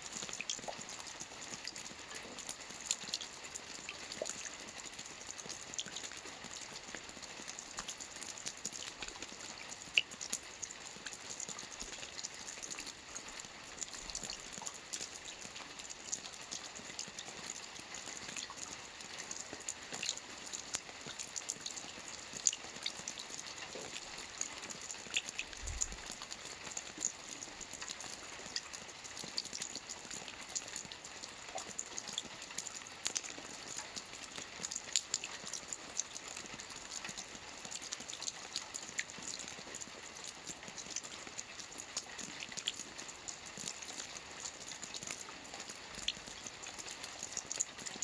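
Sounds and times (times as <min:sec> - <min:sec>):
raindrops ticking on a roof: 0:00.0 - 0:48.0.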